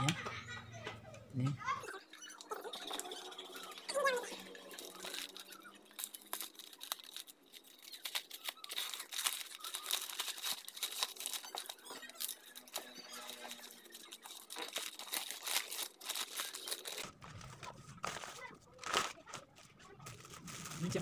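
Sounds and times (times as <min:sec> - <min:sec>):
plastic wrapping crinkling: 0:03.5 - 0:21.0.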